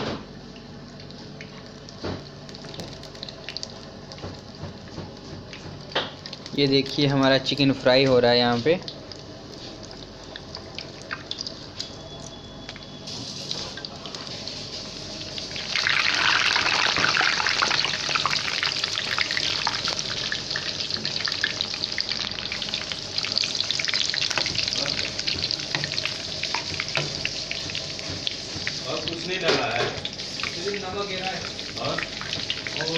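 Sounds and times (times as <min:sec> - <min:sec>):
chicken deep-frying in oil: 0:00.0 - 0:32.9.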